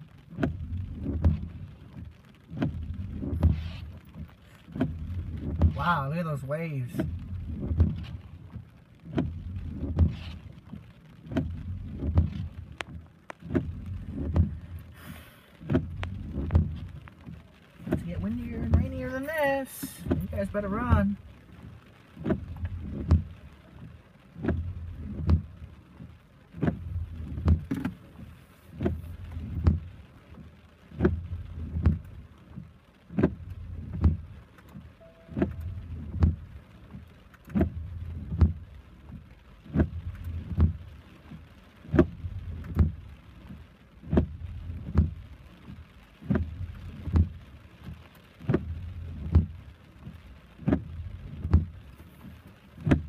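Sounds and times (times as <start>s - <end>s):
rain falling on a car: 0.0s - 53.0s
windshield wipers sweeping: 0.0s - 53.0s.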